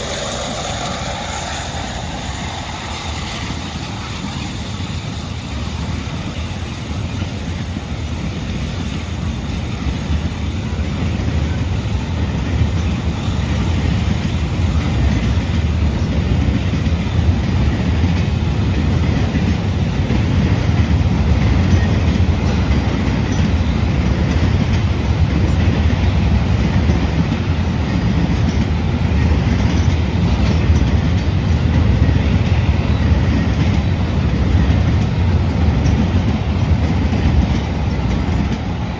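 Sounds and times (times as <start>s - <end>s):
train rumbling and wheel clatter: 0.0s - 38.9s.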